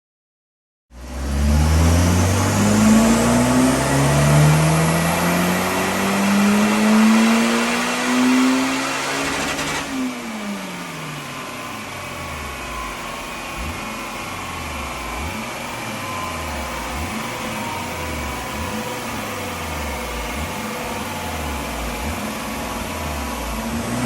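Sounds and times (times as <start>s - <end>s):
car engine revving at full throttle: 1.0s - 24.0s.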